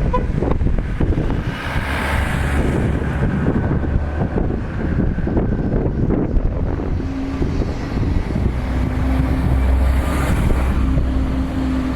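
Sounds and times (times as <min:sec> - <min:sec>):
low engine hum: 0:00.0 - 0:11.9
wind buffeting microphone: 0:00.0 - 0:11.9.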